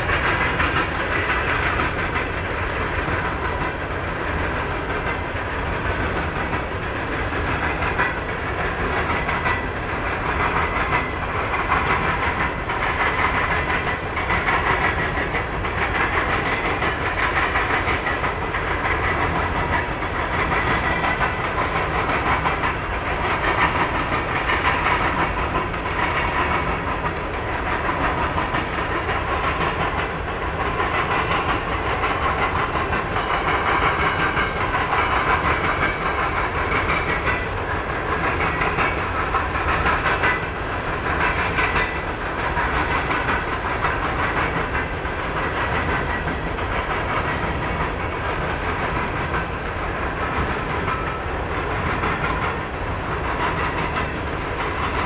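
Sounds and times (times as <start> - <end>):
freight train rumble: 0.0 - 55.0
wheels clattering over rail joints: 0.0 - 55.0.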